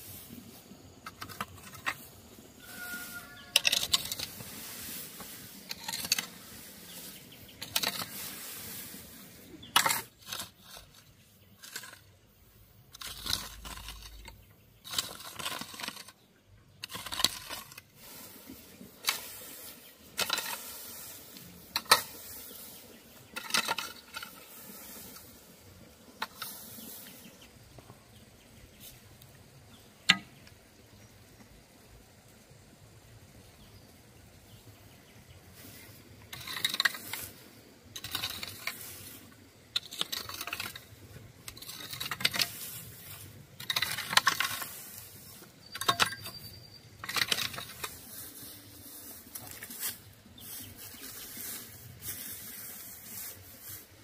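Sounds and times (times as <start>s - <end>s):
scraping dry grass and soil: 0.0s - 54.0s.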